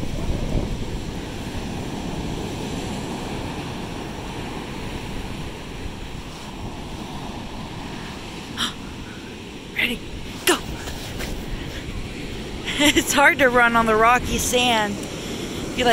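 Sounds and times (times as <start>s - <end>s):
ocean surf breaking on sand: 0.0s - 15.9s
wind rumbling on microphone: 0.0s - 15.9s.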